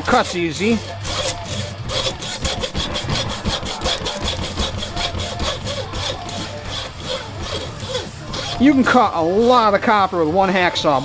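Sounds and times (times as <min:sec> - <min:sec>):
hacksaw cutting copper: 0:00.0 - 0:09.8.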